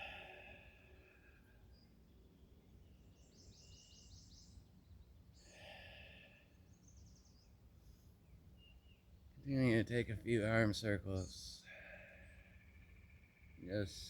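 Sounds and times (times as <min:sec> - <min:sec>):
faint birds calling: 0:00.0 - 0:14.0.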